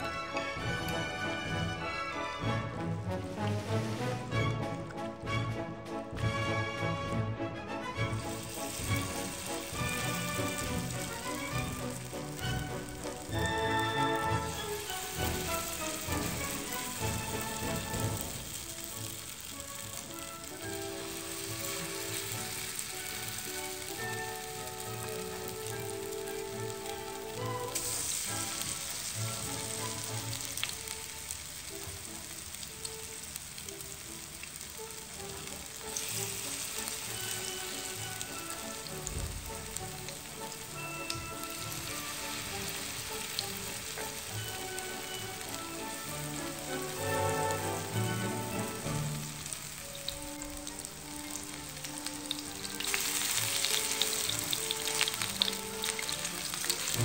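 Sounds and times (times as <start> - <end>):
fritters sizzling in a pan: 7.9 - 57.0.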